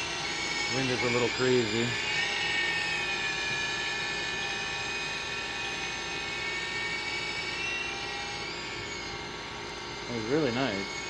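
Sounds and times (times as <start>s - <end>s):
toy helicopter whining: 0.0s - 11.0s.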